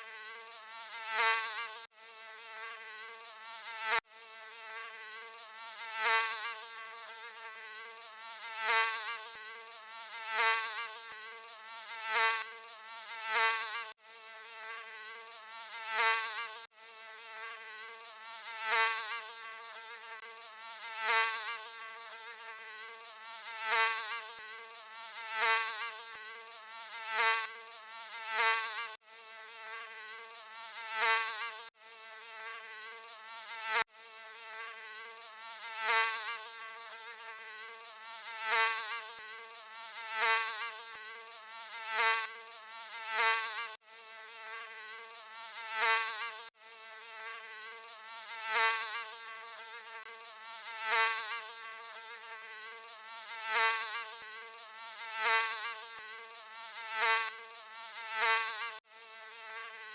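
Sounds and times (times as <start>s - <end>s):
mosquito wings buzzing: 0.0s - 59.9s.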